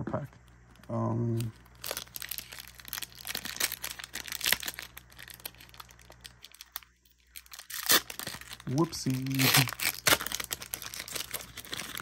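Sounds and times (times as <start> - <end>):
plastic wrapper crinkling: 0.4 - 12.0.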